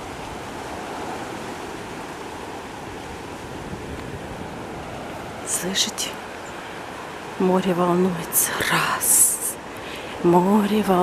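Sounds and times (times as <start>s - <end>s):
rough sea surf: 0.0s - 11.0s
wind: 0.0s - 11.0s.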